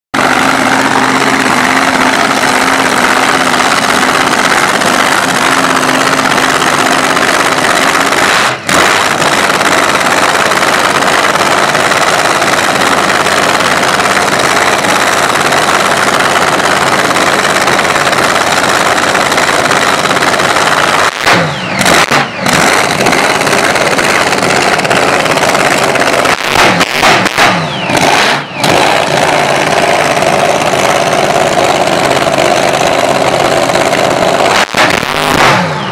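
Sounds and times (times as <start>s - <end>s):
dragster engine revving: 0.1s - 35.9s.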